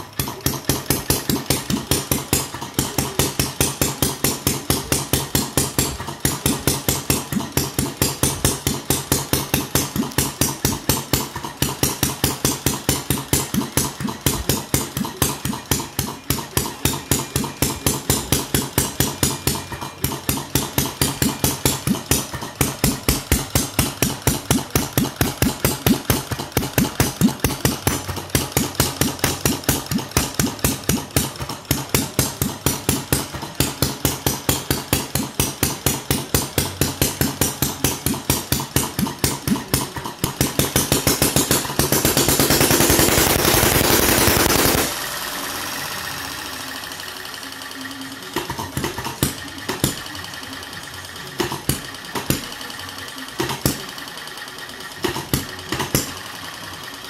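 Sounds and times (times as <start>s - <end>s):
stationary engine clattering: 0.0s - 57.0s.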